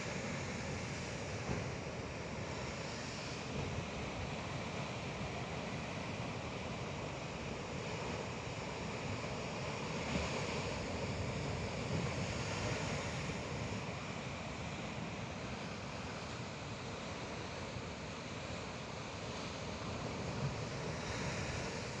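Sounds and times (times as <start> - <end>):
sea waves washing in: 0.0 - 22.0.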